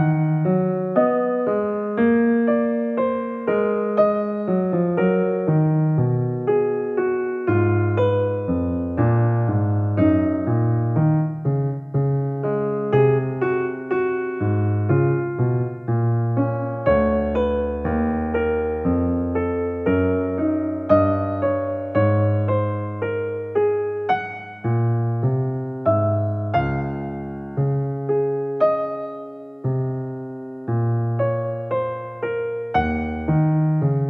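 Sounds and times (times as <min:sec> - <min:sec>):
soft piano melody: 0:00.0 - 0:34.0.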